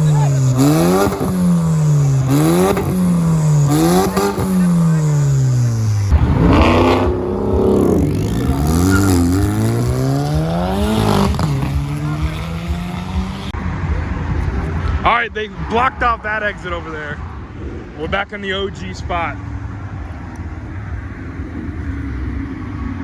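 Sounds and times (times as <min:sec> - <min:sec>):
car engine revving: 0:00.0 - 0:18.0, 0:19.5 - 0:23.0.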